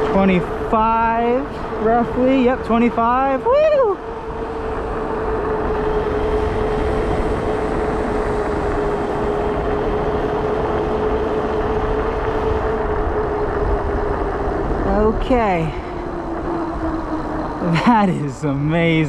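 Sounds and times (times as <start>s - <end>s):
electric motor whine: 0.0s - 19.0s
tire noise on pavement: 0.0s - 19.0s
wind rushing: 0.0s - 19.0s.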